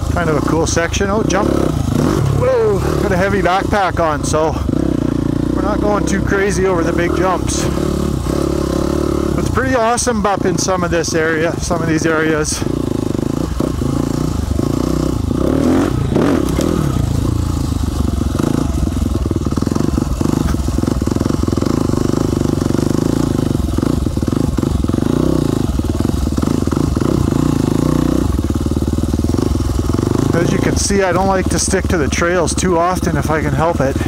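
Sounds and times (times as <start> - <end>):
dirt bike engine: 0.0 - 34.0.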